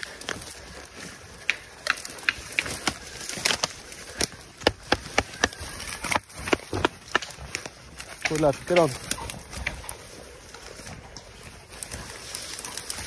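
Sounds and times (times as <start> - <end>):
footsteps crunching dry leaves: 0.0 - 13.0
twigs snapping: 0.0 - 13.0.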